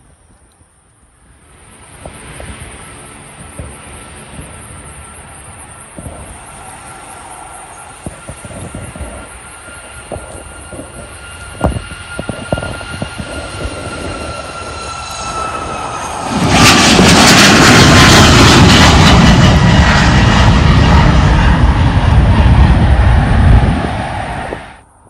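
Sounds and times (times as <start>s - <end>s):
jet engine whine: 0.0s - 25.0s
loud jet roar overhead: 1.4s - 24.9s.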